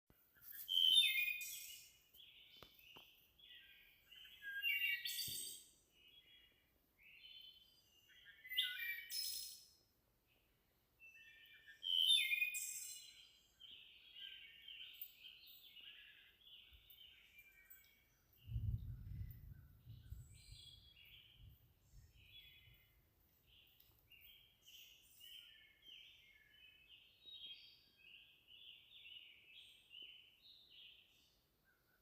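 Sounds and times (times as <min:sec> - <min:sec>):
songbird singing: 0:00.2 - 0:32.0.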